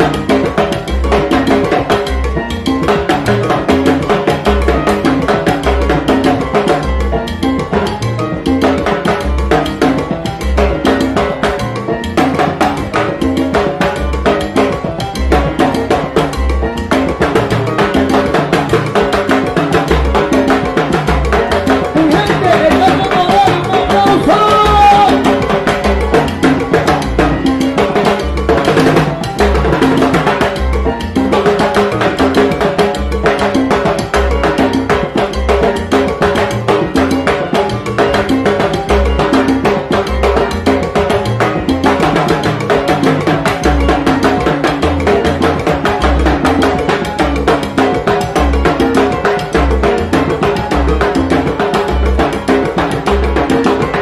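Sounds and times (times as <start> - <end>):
congas: 0.0 - 54.0
cowbell: 0.0 - 54.0
salsa band playing: 0.0 - 54.0
sliding pitched melody: 0.0 - 54.0
upright bass line: 0.0 - 54.0.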